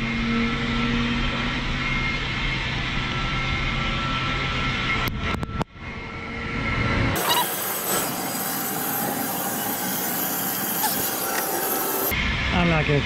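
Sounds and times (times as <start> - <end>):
auxiliary power unit whine: 0.0 - 12.7.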